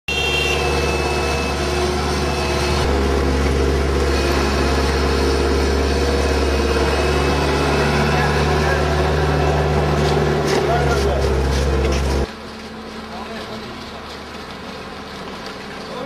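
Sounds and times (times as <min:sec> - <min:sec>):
vehicle engines humming: 0:00.1 - 0:16.0.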